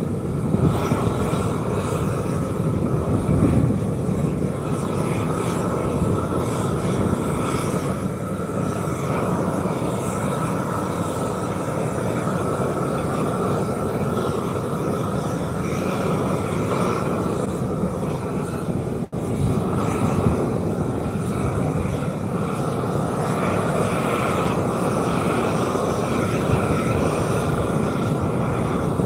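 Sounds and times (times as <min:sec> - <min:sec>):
torch burning with rushing noise: 0:00.0 - 0:29.0.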